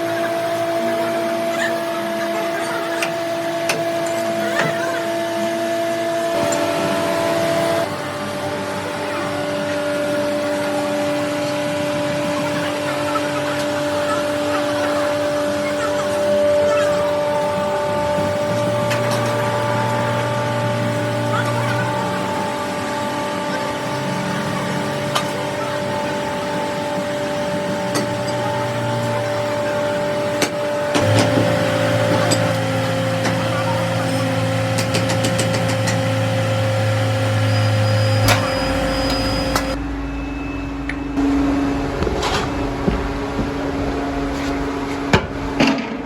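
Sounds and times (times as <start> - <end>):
factory machinery humming: 0.0 - 46.0.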